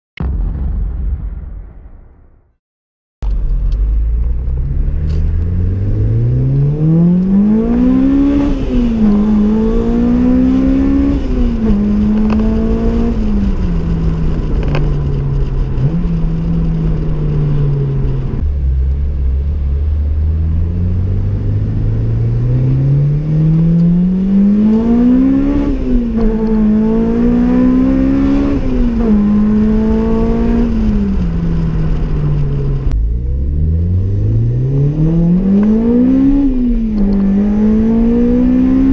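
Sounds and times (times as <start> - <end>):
car engine accelerating hard: 3.3 - 38.9.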